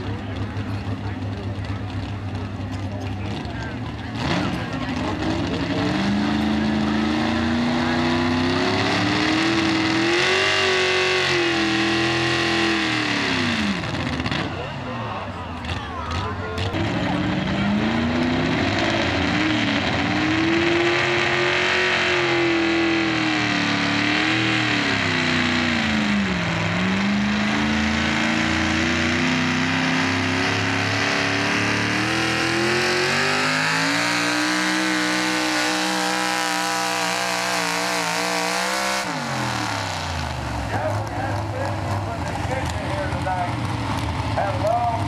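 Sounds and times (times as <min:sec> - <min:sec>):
truck engine at high revs: 0:00.0 - 0:45.0.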